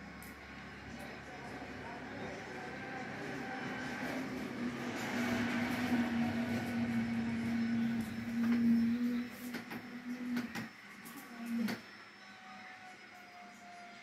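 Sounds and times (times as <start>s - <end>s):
steady hum with hiss: 0.0s - 14.0s.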